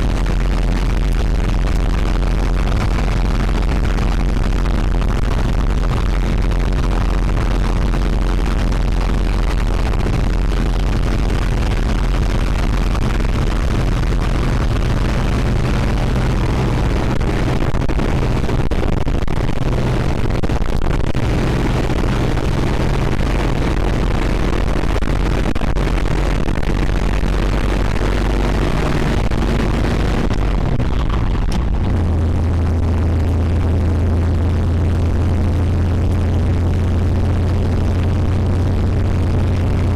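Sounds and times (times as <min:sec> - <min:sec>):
low steady hum: 0:00.0 - 0:39.9
vehicle engine and road rumble: 0:00.0 - 0:39.9.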